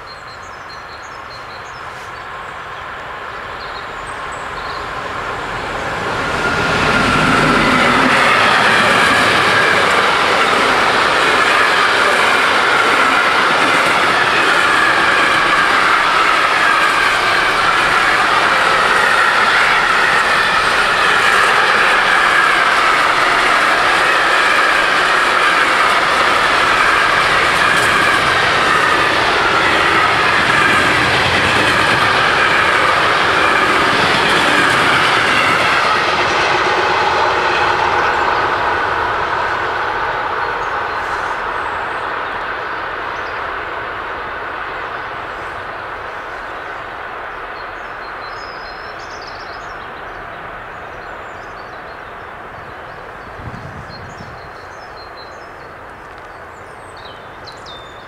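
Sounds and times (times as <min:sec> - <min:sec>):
freight train rolling past: 0:00.1 - 0:58.0.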